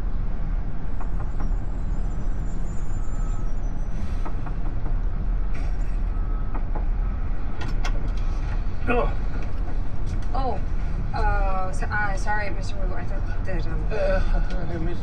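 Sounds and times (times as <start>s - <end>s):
road and tyre rumble: 0.0s - 15.0s.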